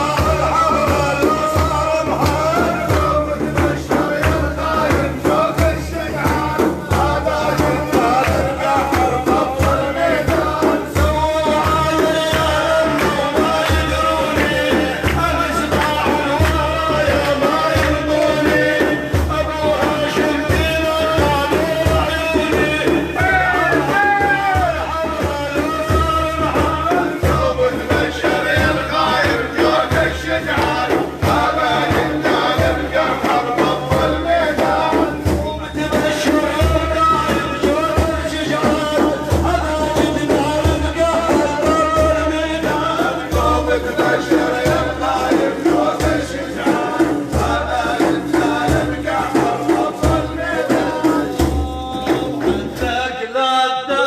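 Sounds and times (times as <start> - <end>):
steady drum beats: 0.0 - 53.3
man singing devotional song: 0.0 - 54.0.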